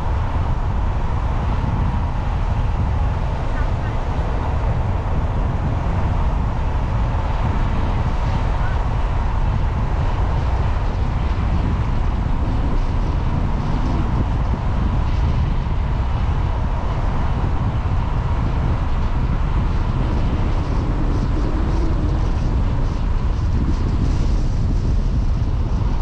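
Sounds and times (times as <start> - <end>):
car engine and tyres rumbling: 0.0 - 26.0
faint steady whine: 0.0 - 26.0.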